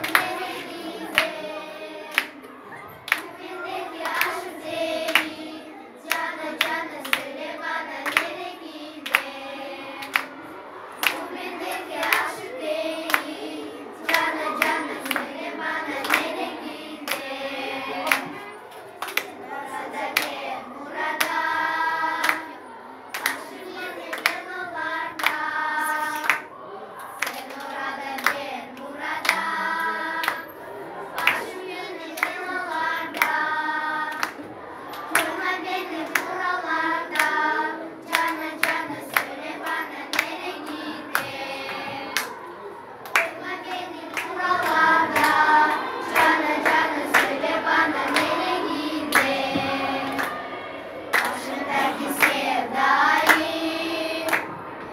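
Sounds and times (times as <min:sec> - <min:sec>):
hands clapping in rhythm: 0:00.0 - 0:02.4, 0:03.1 - 0:10.4, 0:11.0 - 0:13.4, 0:14.0 - 0:17.3, 0:18.0 - 0:19.4, 0:20.0 - 0:26.5, 0:27.1 - 0:42.4, 0:43.0 - 0:50.4, 0:51.1 - 0:54.9
group of voices singing: 0:00.0 - 0:54.9.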